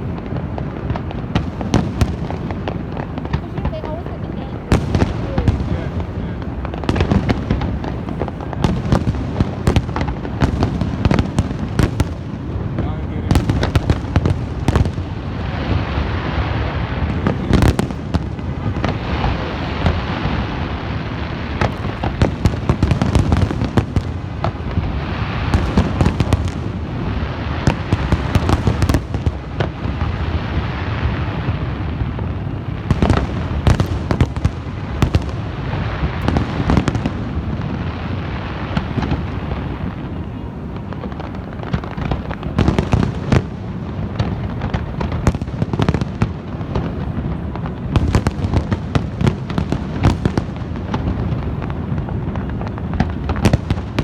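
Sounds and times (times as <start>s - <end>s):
fireworks bangs and crackles: 0.0s - 54.0s
overlapping explosions: 0.0s - 54.0s.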